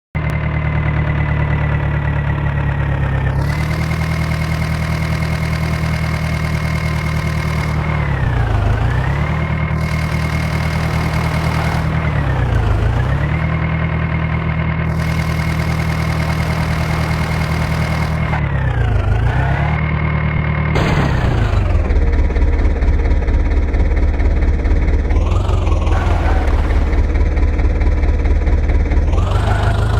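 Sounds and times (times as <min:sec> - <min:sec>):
tractor diesel engine running: 0:00.2 - 0:29.9.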